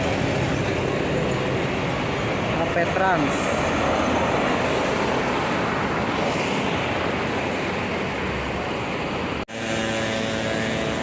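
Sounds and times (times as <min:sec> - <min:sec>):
road traffic roar: 0:00.0 - 0:11.0
steady engine hum: 0:00.0 - 0:11.0.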